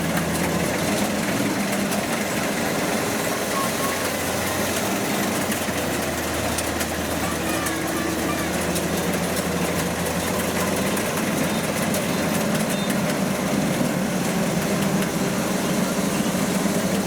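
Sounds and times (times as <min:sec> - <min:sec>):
farm machine engine humming: 0:00.0 - 0:17.0.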